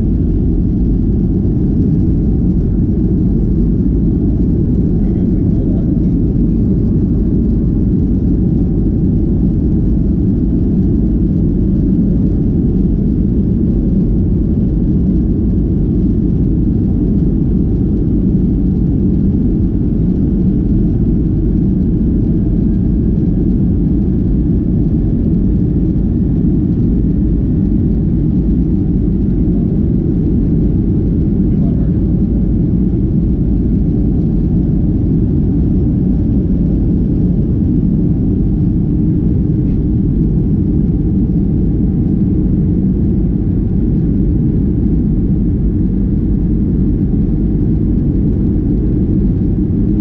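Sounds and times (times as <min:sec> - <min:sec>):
aircraft engines low rumble: 0:00.0 - 0:50.0.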